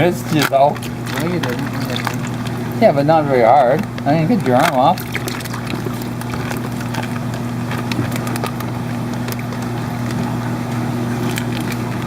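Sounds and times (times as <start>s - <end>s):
aquarium pump hum: 0.0s - 12.0s
running water: 0.0s - 12.0s.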